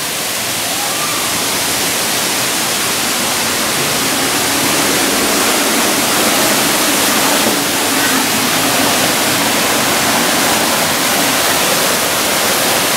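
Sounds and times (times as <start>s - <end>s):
waterfall and stream rushing: 0.0s - 12.9s.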